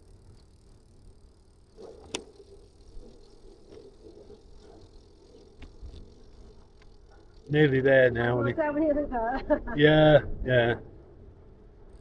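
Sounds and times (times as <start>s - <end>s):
bicycle riding rumble: 0.0s - 12.0s
wind: 0.0s - 12.0s.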